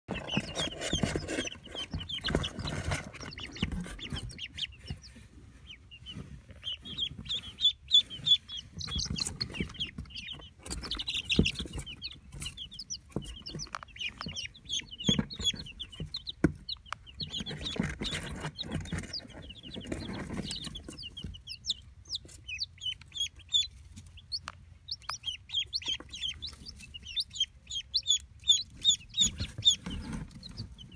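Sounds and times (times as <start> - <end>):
chicks and ducklings peeping: 0.1 - 30.9
rustling: 0.1 - 30.9.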